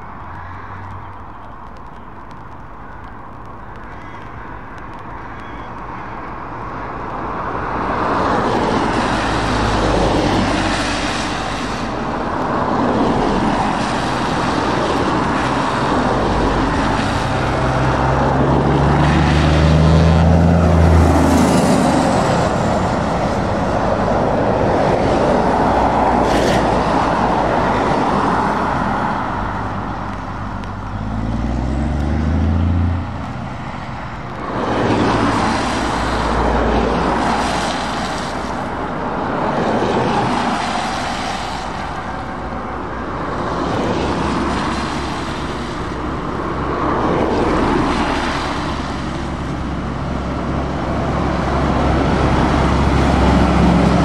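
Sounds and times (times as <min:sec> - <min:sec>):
tyres hissing on wet road: 0:00.2 - 0:54.0
diesel truck engines accelerating: 0:04.4 - 0:54.0.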